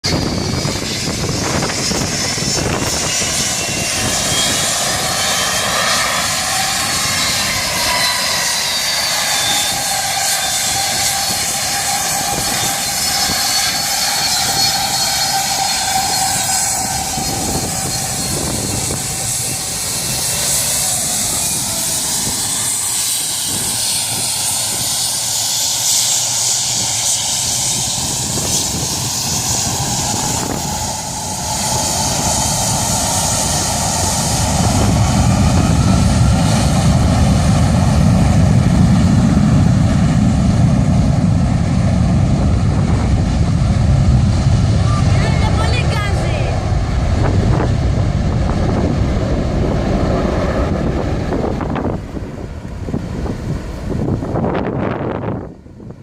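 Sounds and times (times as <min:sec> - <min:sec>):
jet engine roar: 0:00.0 - 0:56.0
whining fan tones: 0:00.0 - 0:56.0.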